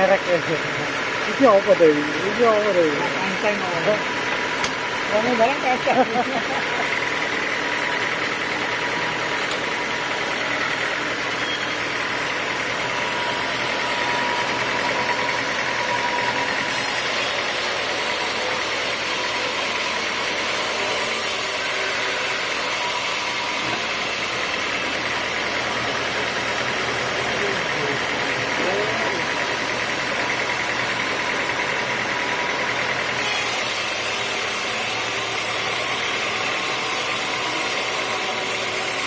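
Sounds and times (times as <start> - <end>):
sawmill engine drone: 0.0 - 39.0.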